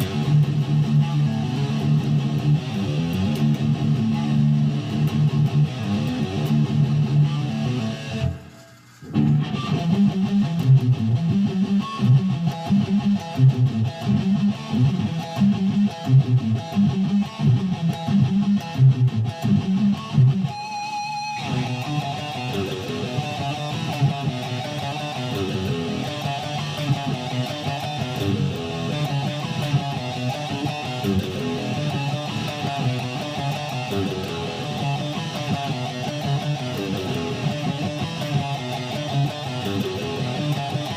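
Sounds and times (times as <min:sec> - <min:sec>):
guitar music: 0:00.0 - 0:40.9.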